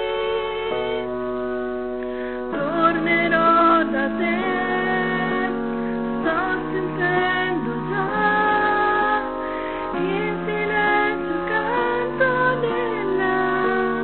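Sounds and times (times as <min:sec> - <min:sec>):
woman singing a slow ballad: 0:00.0 - 0:01.3, 0:02.2 - 0:05.6, 0:06.2 - 0:14.0
instrumental backing track: 0:00.0 - 0:14.0.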